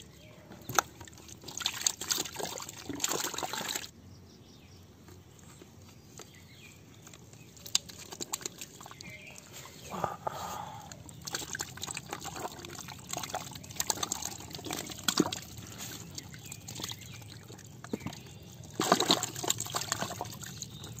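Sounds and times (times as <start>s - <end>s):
muddy water splashing: 0.0s - 3.9s, 7.1s - 21.0s.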